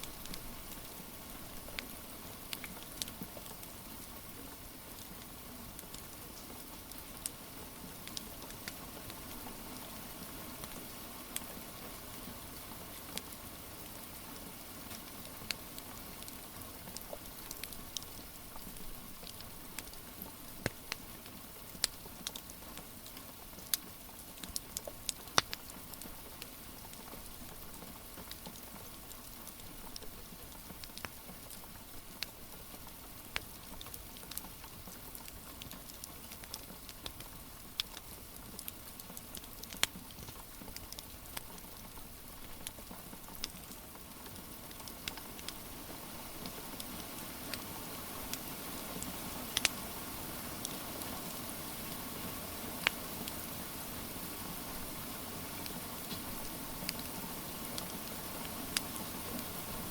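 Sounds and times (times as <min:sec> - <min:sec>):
rain hiss: 0:00.0 - 0:59.9
wood fire crackling: 0:00.0 - 0:59.9.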